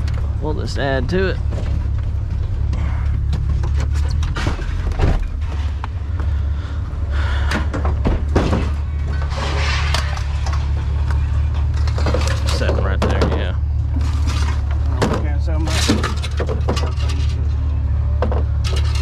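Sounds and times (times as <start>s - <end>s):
truck engine idling: 0.0s - 19.0s
knocks and clanks: 1.4s - 6.3s, 7.4s - 19.0s.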